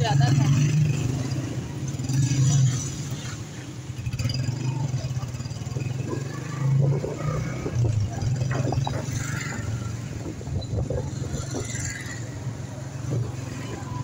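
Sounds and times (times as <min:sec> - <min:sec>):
light street traffic: 0:00.0 - 0:14.0.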